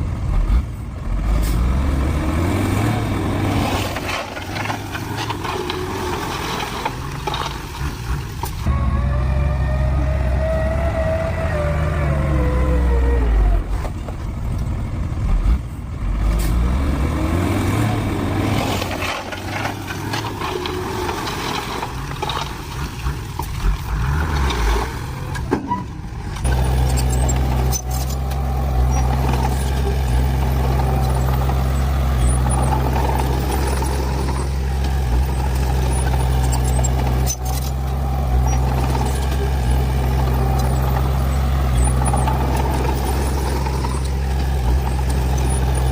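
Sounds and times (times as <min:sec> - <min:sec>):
diesel engines of heavy machinery: 0:00.0 - 0:45.9.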